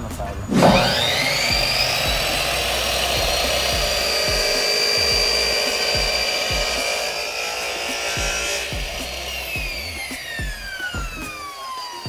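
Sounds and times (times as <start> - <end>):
miter saw cutting wood: 0.2 - 12.0.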